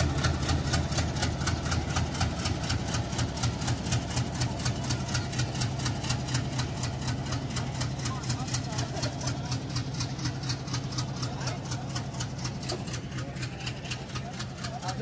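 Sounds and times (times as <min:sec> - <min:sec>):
diesel locomotive engine pulsing: 0:00.0 - 0:15.0.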